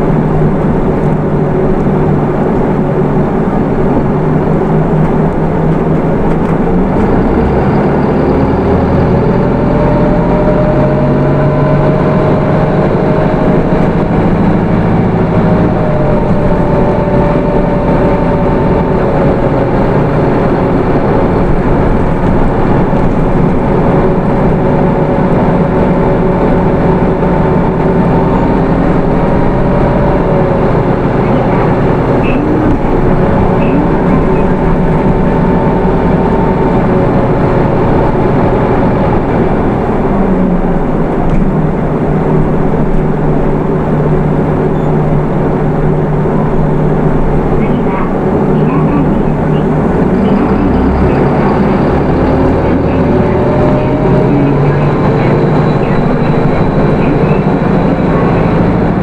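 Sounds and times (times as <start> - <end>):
bus diesel engine: 0.0 - 59.0
whine drifting in pitch: 0.0 - 59.0.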